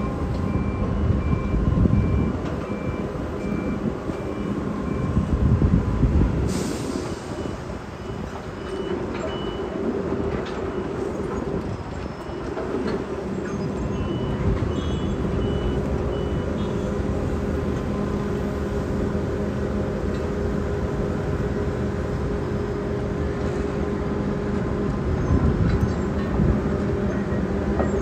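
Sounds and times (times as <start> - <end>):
diesel engine humming: 0.0 - 28.0.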